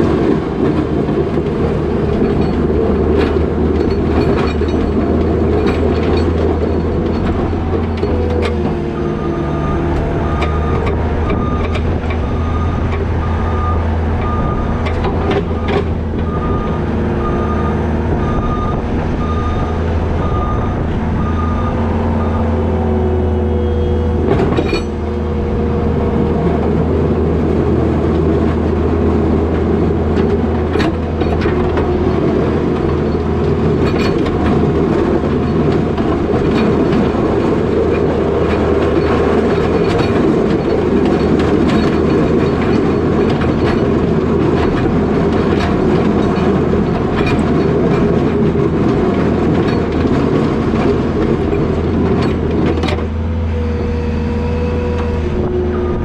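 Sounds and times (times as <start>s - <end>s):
diesel engine running: 0.0s - 56.0s
plow knocks and clanks: 0.0s - 56.0s.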